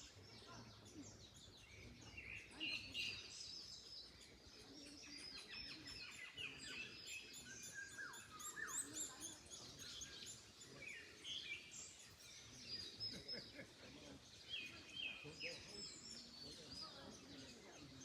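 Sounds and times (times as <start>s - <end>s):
birds singing and chirping: 0.0s - 18.0s.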